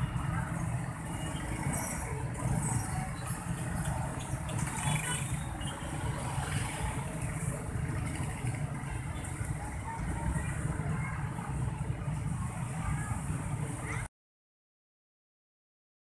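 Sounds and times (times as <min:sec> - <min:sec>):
street traffic rumble: 0:00.0 - 0:14.1.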